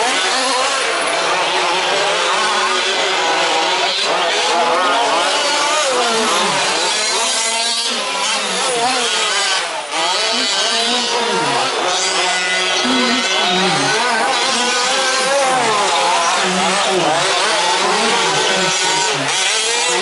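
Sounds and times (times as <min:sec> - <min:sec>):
small two-stroke engines revving: 0:00.0 - 0:20.0.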